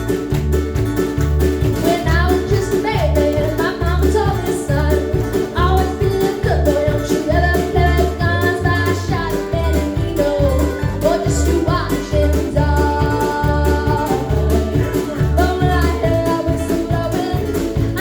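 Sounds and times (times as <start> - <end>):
bass playing a steady beat: 0.0 - 18.0
plucked strings: 0.0 - 18.0
person singing: 1.8 - 18.0.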